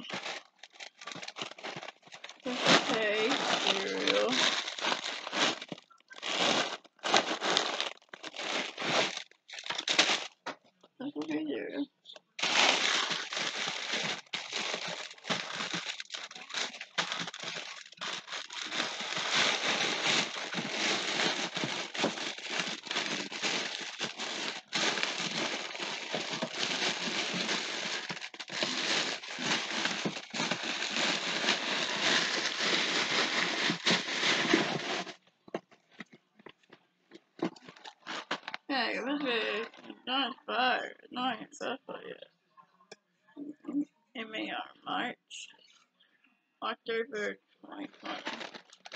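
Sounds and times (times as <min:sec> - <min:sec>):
plastic packaging crinkling: 0:00.0 - 0:10.8, 0:12.2 - 0:40.0, 0:47.8 - 0:48.9.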